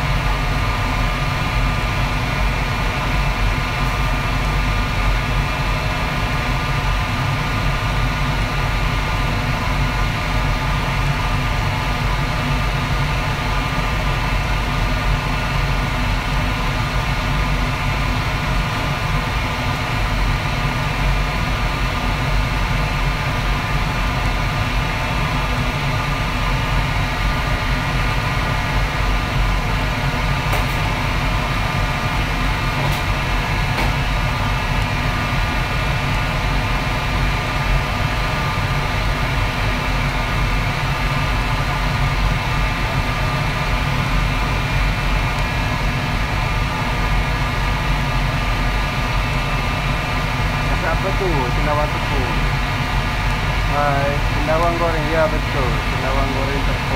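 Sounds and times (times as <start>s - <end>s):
gas wok burner and fan drone: 0.0s - 56.9s.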